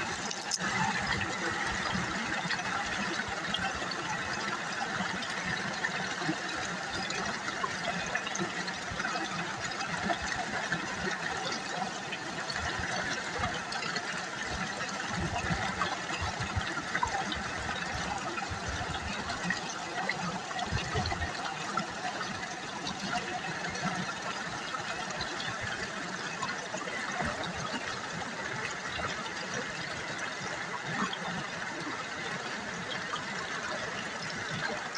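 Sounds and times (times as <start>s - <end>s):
river water babbling over stones: 0.0s - 34.9s.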